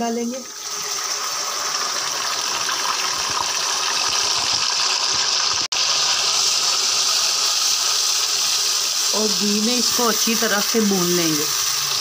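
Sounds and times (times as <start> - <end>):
meat sizzling in hot fat: 0.0 - 12.0.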